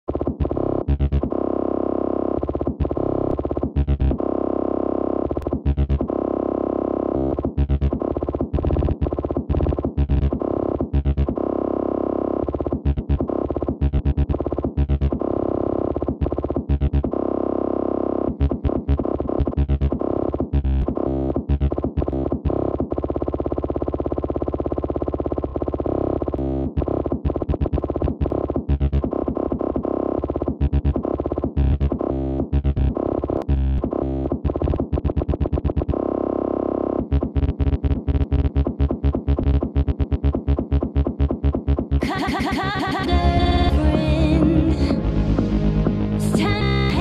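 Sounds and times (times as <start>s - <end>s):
stuttering distorted synthesizer chord: 0.1s - 22.8s, 25.6s - 47.0s.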